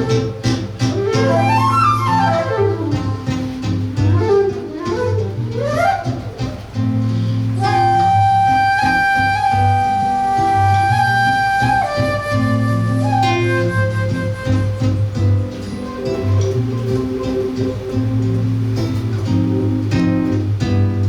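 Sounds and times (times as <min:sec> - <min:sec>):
flute melody: 0:00.0 - 0:21.0
guitar bass line: 0:00.0 - 0:21.0.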